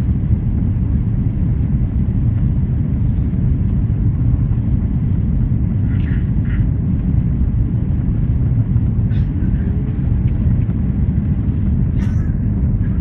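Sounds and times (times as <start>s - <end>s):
jet engine and airflow rumble: 0.0s - 13.0s.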